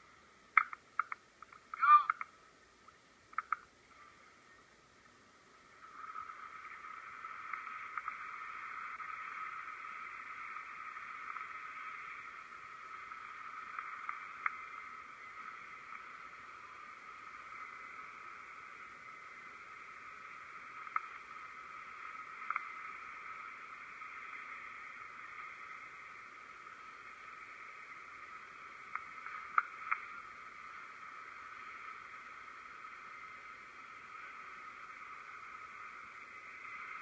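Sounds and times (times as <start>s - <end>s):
faint clicks: 0.5s - 37.0s.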